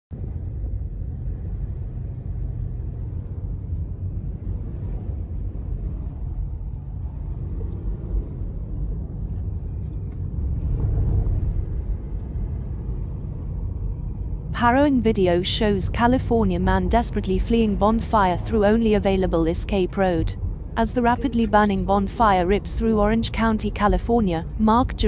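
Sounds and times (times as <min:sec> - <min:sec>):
car driving rumble: 0:00.1 - 0:25.0.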